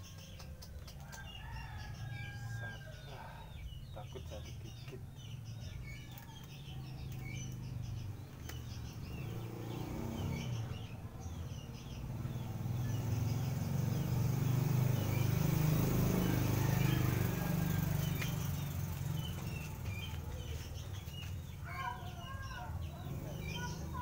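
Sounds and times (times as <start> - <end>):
low engine rumble: 0.0 - 24.0
small birds chirping: 0.0 - 24.0.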